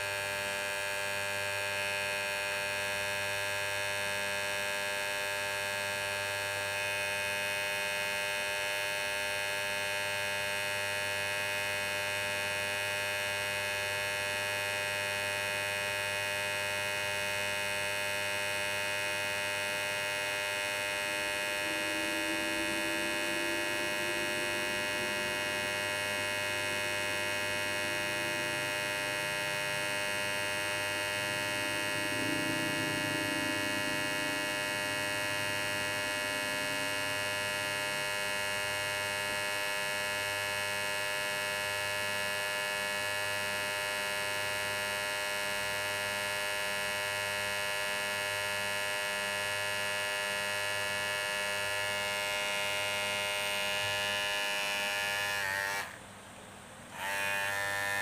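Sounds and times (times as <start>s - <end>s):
electric hair trimmer buzzing: 0.0s - 56.0s, 56.9s - 58.0s.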